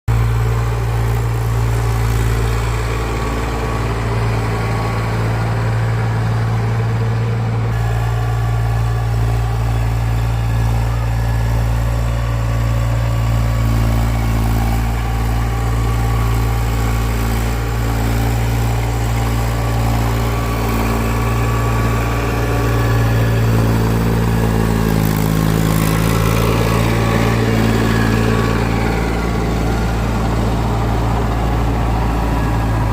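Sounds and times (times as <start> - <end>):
machine engine running: 0.1 - 32.9.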